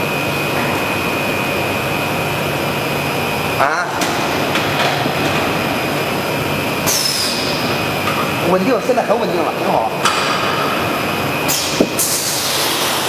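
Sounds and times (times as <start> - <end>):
tape slitting machine running: 1.4 - 13.0.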